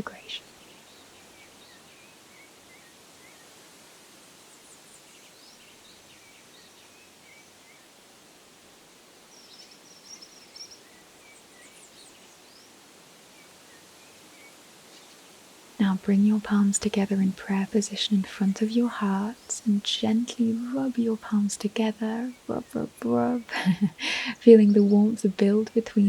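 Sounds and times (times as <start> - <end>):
faint birdsong chirps and trill: 0.0 - 26.0
soft outdoor hiss: 0.0 - 26.0.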